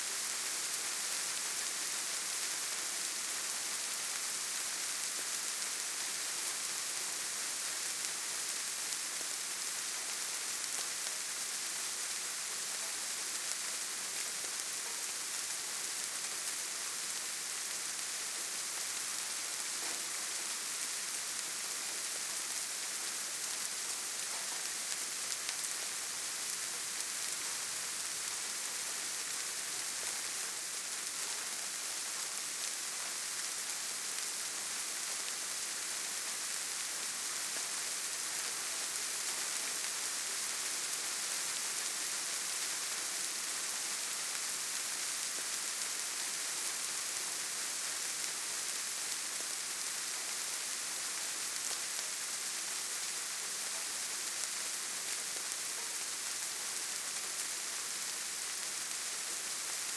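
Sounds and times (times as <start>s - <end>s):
rain hissing in forest: 0.0s - 59.9s.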